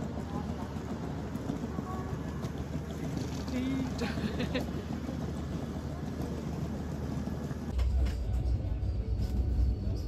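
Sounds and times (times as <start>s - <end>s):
low rumble inside train coach: 0.0s - 10.0s
railway platform ambience: 0.0s - 10.0s.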